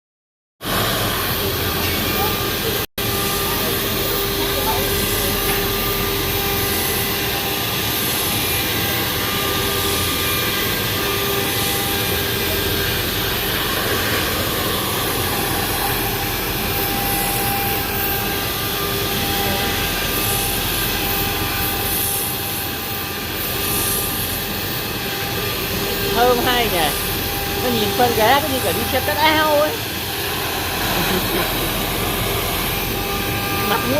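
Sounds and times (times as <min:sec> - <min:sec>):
cutting machine whirring drone: 0:00.6 - 0:33.9
faint machine whining tones: 0:00.7 - 0:33.9.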